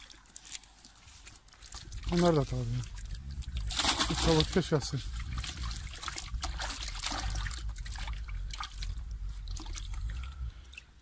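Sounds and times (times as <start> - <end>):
wet net mesh clicks and rustles: 0.0 - 10.0
water trickling and dripping: 0.0 - 11.0
low rumble: 1.8 - 10.7.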